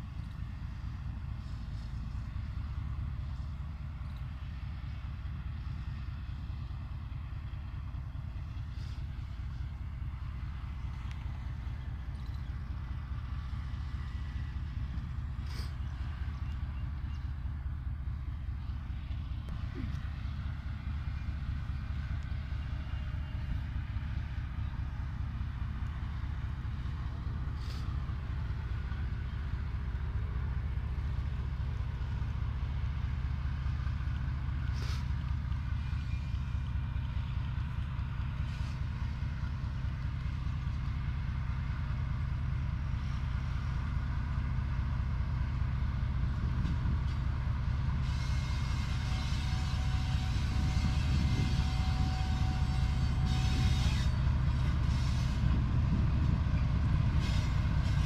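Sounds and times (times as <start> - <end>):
locomotive engine rumble: 0.0 - 58.0
train wheel and rail noise: 0.0 - 58.0.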